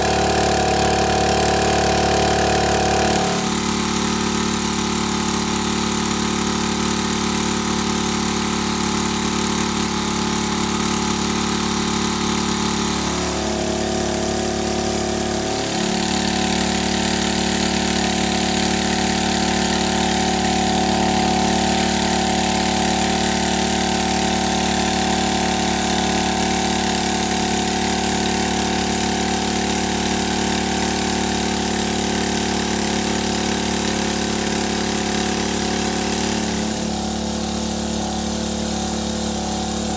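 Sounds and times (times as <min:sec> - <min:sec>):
motor running steadily: 0:00.0 - 0:39.9.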